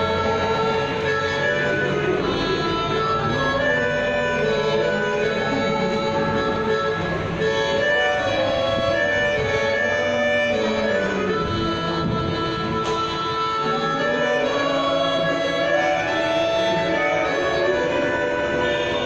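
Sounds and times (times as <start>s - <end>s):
harmonica playing chords: 0.0s - 19.0s.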